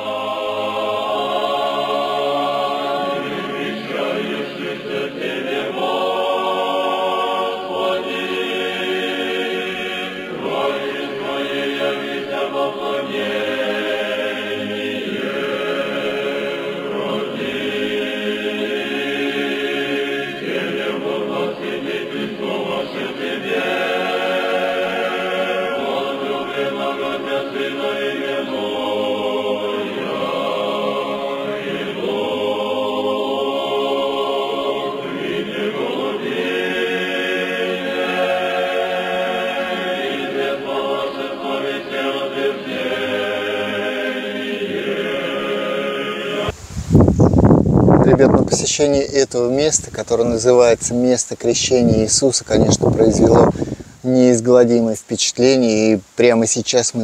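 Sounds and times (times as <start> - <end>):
choir chanting long notes: 0.0 - 46.6.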